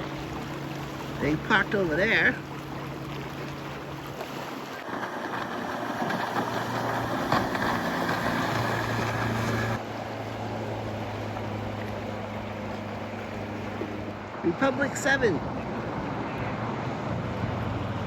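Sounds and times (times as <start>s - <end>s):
motorboat engine drone: 0.0s - 18.0s
water wash: 0.0s - 18.0s.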